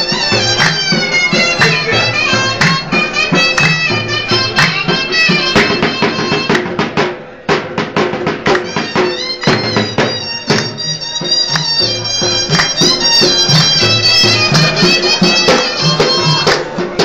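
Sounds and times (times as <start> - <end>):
reedy wind instrument melody: 0.0 - 6.6, 8.5 - 17.0
quick drum beat: 0.0 - 17.0.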